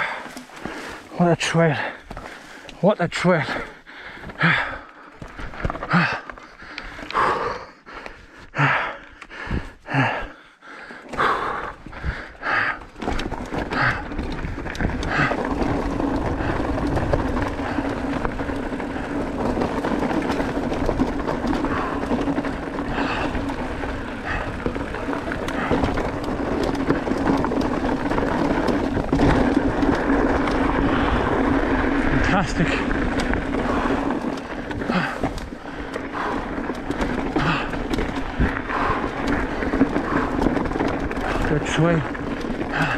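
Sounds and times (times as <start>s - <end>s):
tyres crunching on gravel: 0.0s - 7.3s, 11.4s - 42.9s
bike rattling: 0.0s - 42.9s.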